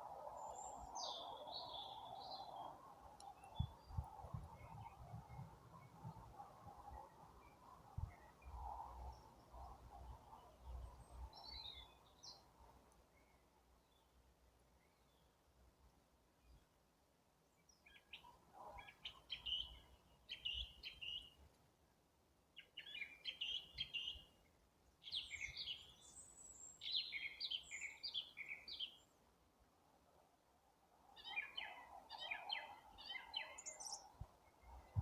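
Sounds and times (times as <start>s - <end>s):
songbird singing: 0.0s - 16.8s, 17.4s - 21.6s, 22.5s - 29.4s, 31.0s - 35.0s.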